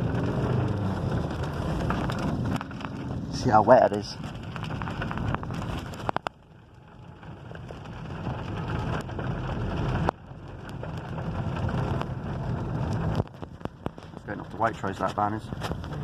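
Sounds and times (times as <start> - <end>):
heavy rain drumming on car: 0.0 - 16.0
low engine rumble: 0.0 - 16.0.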